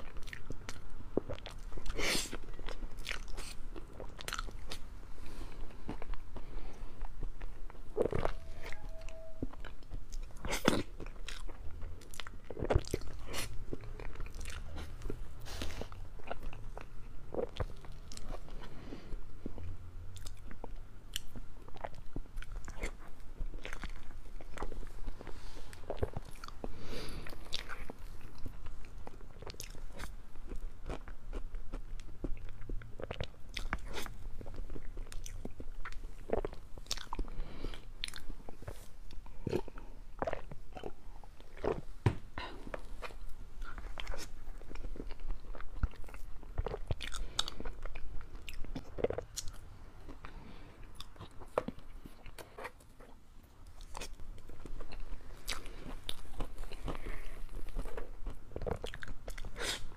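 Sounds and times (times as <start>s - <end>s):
chewing and wet mouth sounds: 0.0s - 59.9s.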